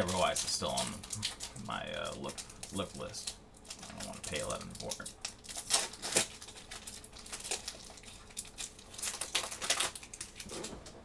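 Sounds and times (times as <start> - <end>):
foil wrapper crinkling: 0.0 - 10.9.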